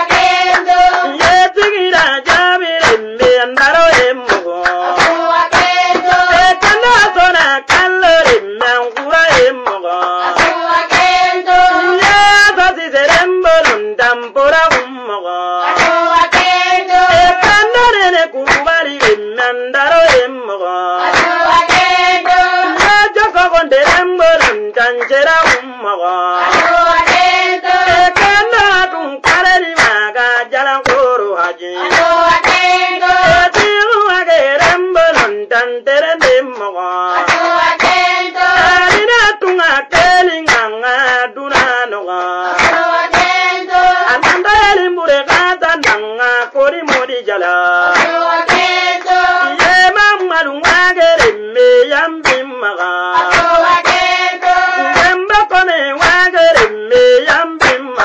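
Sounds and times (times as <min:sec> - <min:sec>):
sharp hand claps: 0:00.0 - 0:15.0, 0:15.6 - 0:19.3, 0:19.9 - 0:20.4, 0:21.0 - 0:25.8, 0:26.4 - 0:31.2, 0:31.8 - 0:58.0
people singing: 0:00.0 - 0:58.0.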